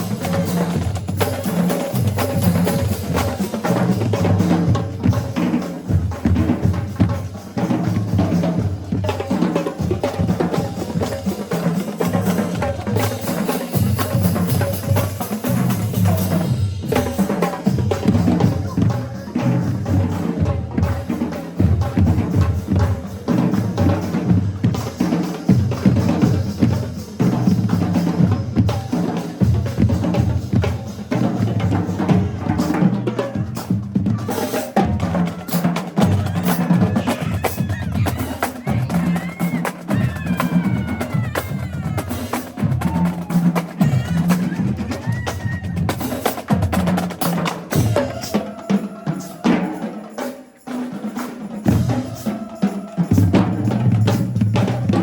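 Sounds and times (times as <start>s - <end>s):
marching drumline playing: 0.0s - 55.0s.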